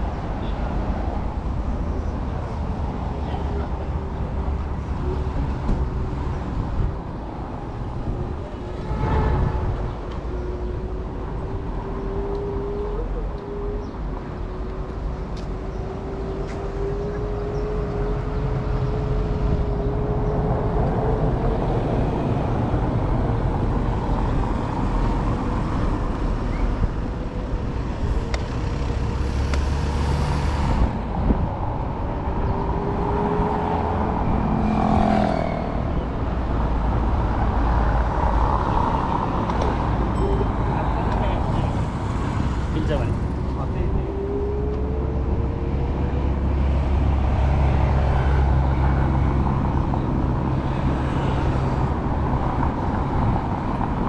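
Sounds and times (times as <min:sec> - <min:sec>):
traffic passing: 0:00.0 - 0:54.0.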